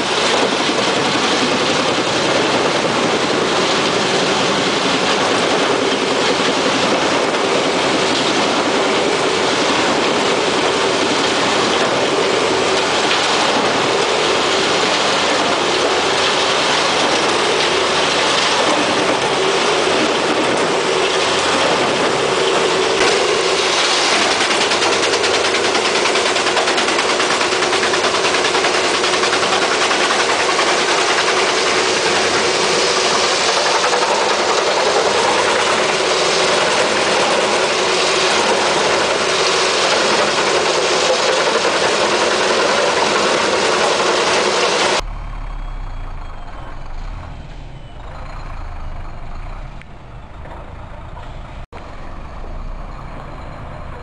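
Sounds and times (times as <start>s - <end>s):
lorry engine running: 0.0s - 54.0s
wood chipper chipping logs: 0.0s - 54.0s.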